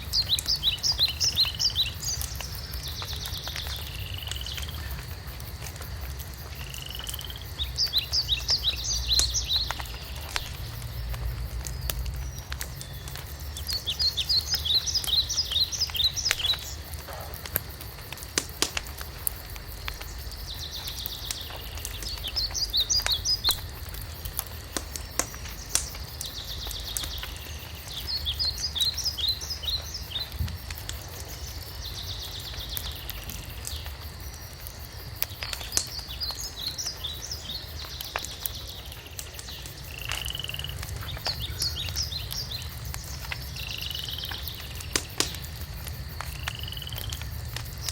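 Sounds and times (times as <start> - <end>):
songbird singing: 0.0 - 5.9, 6.5 - 34.1, 35.2 - 47.9
wood fire crackling and popping: 0.0 - 47.9.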